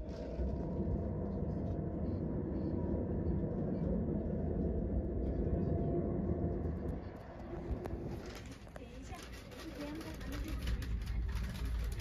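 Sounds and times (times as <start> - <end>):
train running noise from inside: 1.6 - 12.0.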